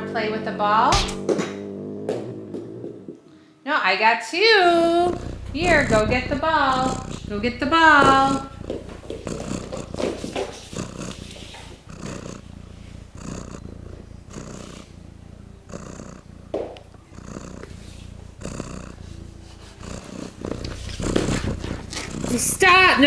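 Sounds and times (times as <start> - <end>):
cat purring: 0.0 - 3.6, 4.4 - 23.0.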